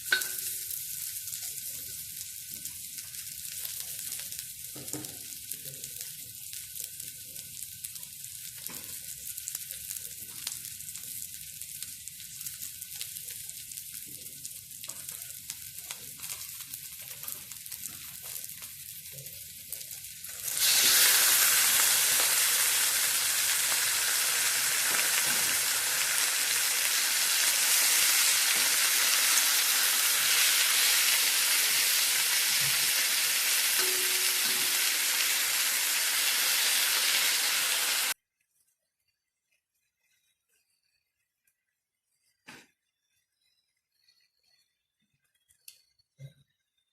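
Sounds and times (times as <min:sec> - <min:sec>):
food sizzling in hot oil: 0:00.0 - 0:38.2.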